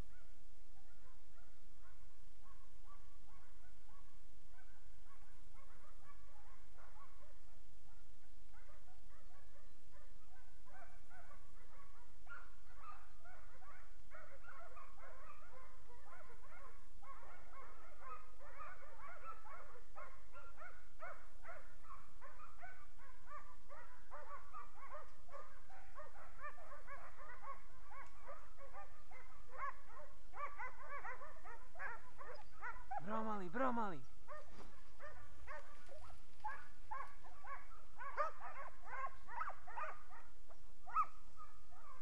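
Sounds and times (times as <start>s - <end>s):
dogs barking: 0.1s - 42.0s.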